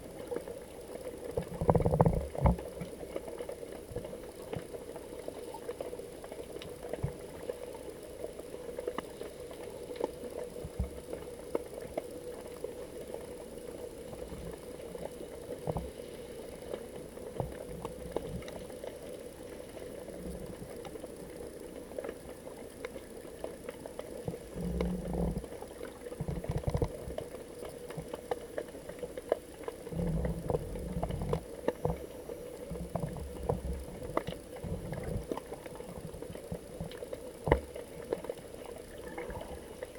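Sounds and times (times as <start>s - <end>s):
muffled underwater hum: 0.0s - 39.9s
clicks and crackles: 0.1s - 39.9s.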